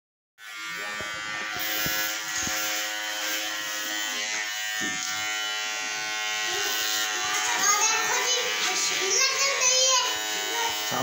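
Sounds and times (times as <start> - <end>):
electric hair clippers buzzing: 0.4 - 11.0.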